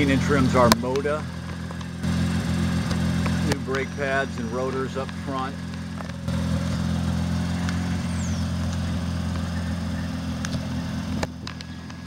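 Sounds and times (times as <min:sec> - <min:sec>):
rotary engine idling: 0:00.0 - 0:12.0.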